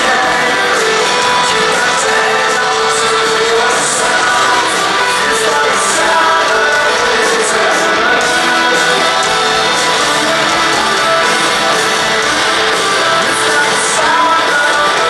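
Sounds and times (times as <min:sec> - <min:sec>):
guitars strumming: 0:00.0 - 0:15.0
rock band playing live: 0:00.0 - 0:15.0.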